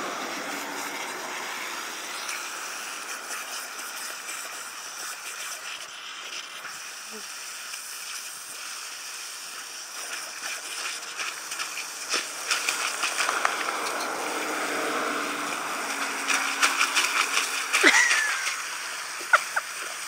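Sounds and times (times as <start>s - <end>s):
dogs splashing and lapping water: 0.0s - 20.0s
water spraying from garden hose: 0.0s - 20.0s.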